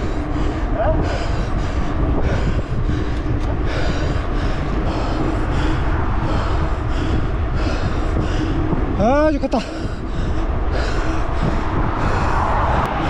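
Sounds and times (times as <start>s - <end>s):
hard rhythmic breathing: 0.0s - 13.0s
wind rushing over microphone: 0.0s - 13.0s.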